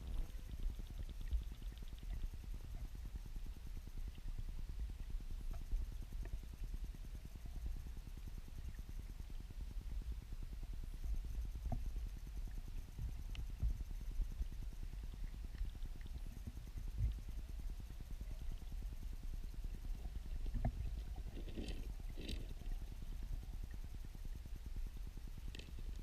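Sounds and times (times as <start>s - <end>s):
underwater water rumble: 0.0s - 26.0s.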